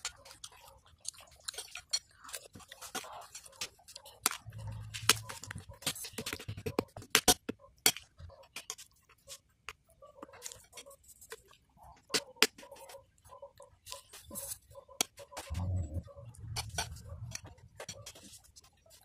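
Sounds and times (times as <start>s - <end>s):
soft chewing: 0.0s - 19.0s.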